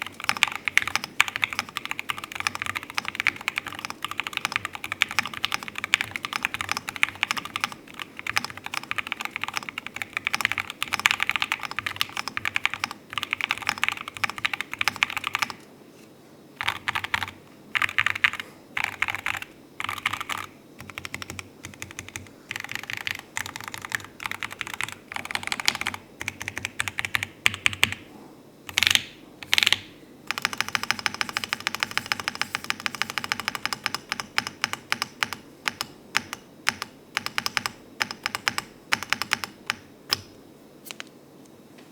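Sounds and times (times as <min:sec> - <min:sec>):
mechanical keyboard typing: 0:00.0 - 0:15.6, 0:16.6 - 0:28.0, 0:28.7 - 0:40.3.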